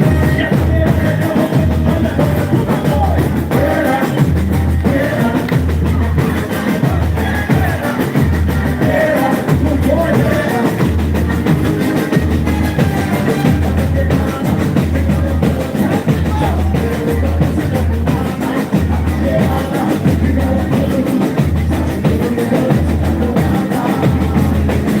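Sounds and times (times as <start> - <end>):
amplified band: 0.0 - 25.0
heavy dense drumming: 0.0 - 25.0
pulsing bass line: 0.0 - 25.0.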